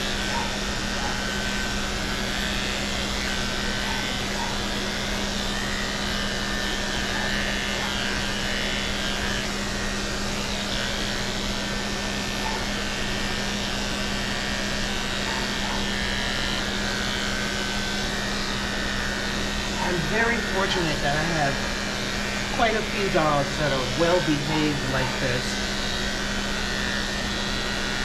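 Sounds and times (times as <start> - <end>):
electric clippers humming: 0.0 - 28.0.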